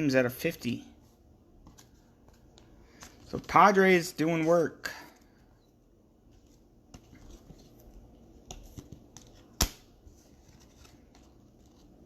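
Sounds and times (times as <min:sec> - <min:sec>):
cards rustling and sliding: 0:01.6 - 0:05.5, 0:06.3 - 0:12.0.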